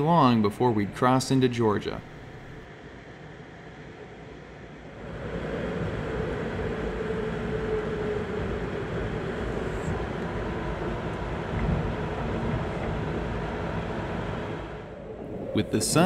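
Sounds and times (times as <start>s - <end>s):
faint whine: 0.0s - 2.7s, 3.8s - 16.0s.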